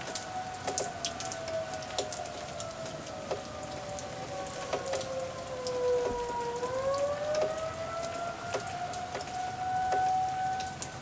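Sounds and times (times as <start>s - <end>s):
sharp raindrop drips: 0.0s - 11.0s
steady rain: 0.0s - 11.0s
warning siren wailing: 0.0s - 11.0s.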